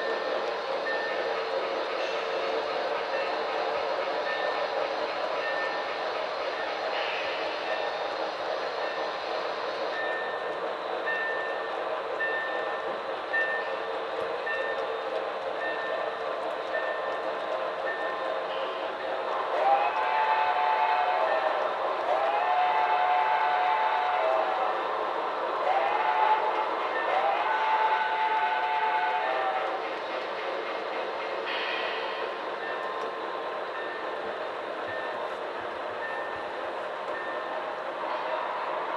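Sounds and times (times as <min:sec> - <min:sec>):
model train cars rolling: 0:00.0 - 0:38.9.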